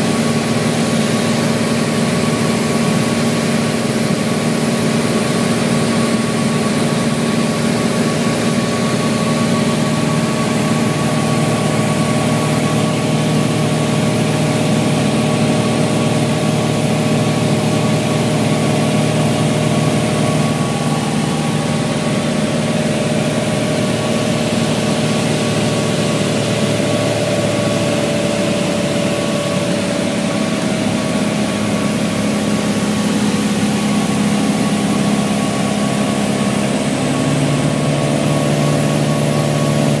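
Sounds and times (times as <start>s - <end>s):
propeller airplane engine drone: 0.0s - 40.0s.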